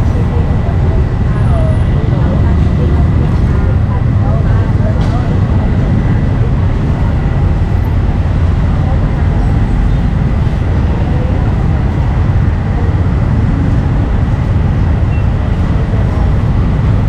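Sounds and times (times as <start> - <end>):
indistinct voices: 0.0 - 17.0
street rumble: 0.0 - 17.0.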